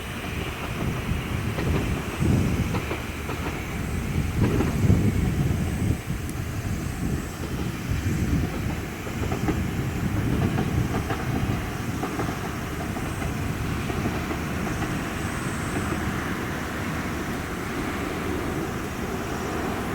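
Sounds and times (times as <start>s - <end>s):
train engine rumble: 0.0s - 19.9s
wheels clicking over rail joints: 0.0s - 19.9s.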